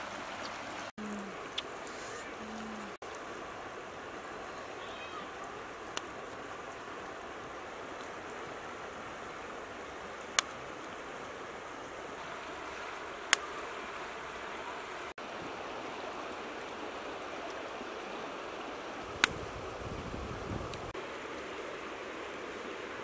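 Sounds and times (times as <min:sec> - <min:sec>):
river flowing over stones: 0:00.0 - 0:23.0.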